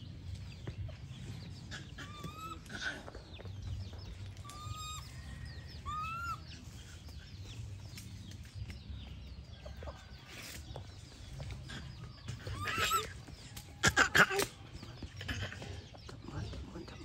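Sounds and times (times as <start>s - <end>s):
chickens peeping: 0.0s - 17.0s.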